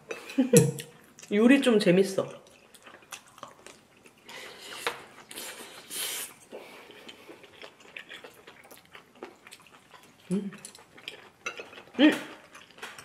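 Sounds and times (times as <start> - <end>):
chewing crunchy rice: 2.4 - 13.0.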